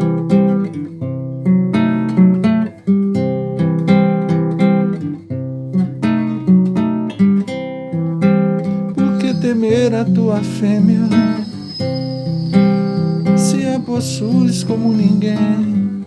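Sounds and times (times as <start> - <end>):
acoustic guitar strummed and picked: 0.0 - 16.0.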